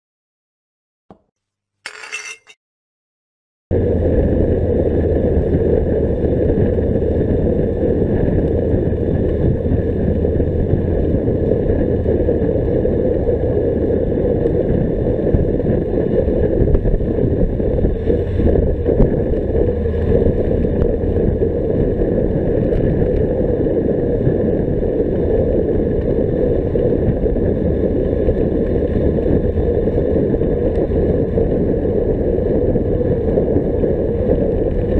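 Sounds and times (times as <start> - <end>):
bicycle road noise: 3.7 - 34.9
wind rumble: 3.7 - 34.9.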